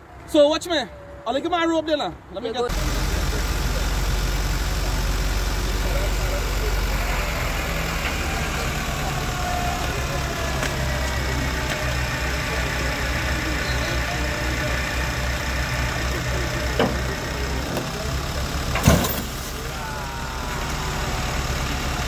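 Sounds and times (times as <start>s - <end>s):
vehicle engine idling: 2.7s - 22.0s.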